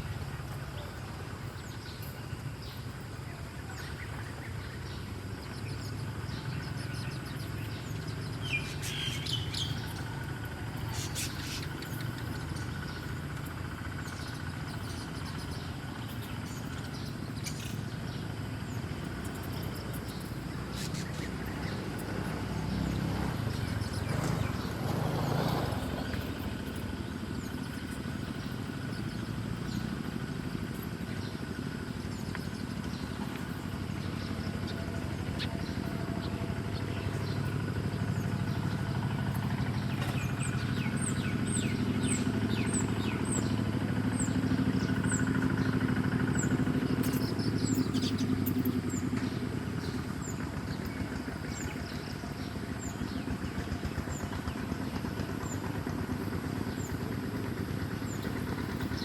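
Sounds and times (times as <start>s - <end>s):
bird chirps: 0.0s - 59.0s
vehicle engine drone: 0.0s - 59.0s.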